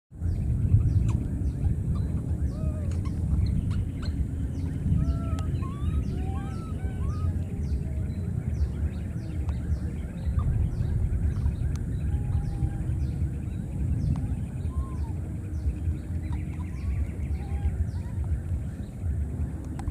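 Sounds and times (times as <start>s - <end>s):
low microphone rumble: 0.1s - 19.9s
rising and falling animal calls: 0.9s - 8.4s, 10.2s - 18.7s.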